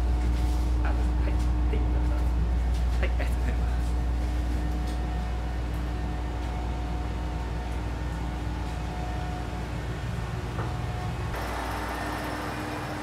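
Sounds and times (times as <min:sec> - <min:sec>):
railcar low hum: 0:00.0 - 0:13.0.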